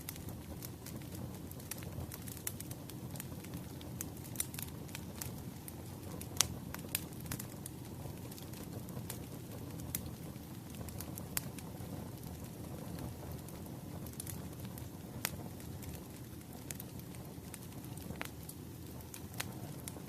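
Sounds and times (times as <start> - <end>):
wood fire popping and crackling: 0.0 - 20.0.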